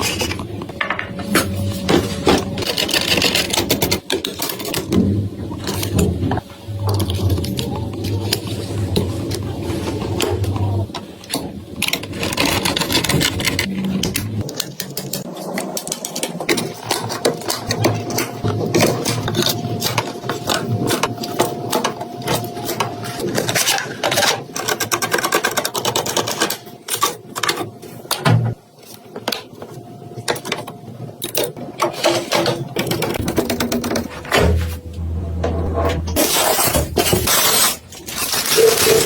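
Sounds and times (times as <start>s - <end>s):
mechanism clicking and rattling: 2.3s - 8.6s, 9.3s - 28.2s, 28.8s - 39.0s.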